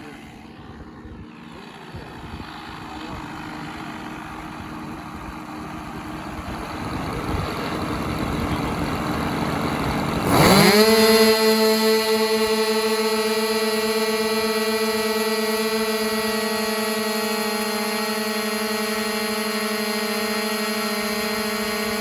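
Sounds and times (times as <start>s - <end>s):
model airplane engines droning: 0.0s - 22.0s.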